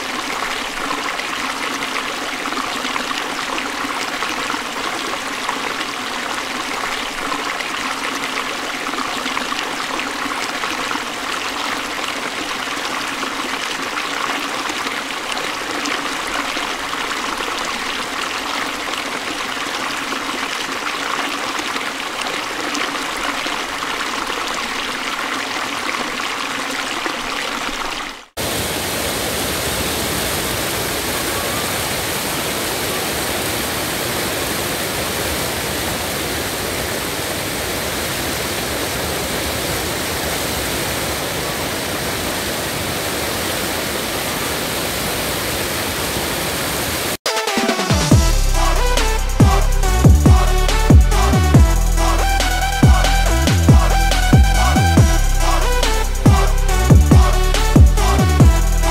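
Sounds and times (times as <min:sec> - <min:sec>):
water rushing over a weir: 0:00.0 - 0:47.9.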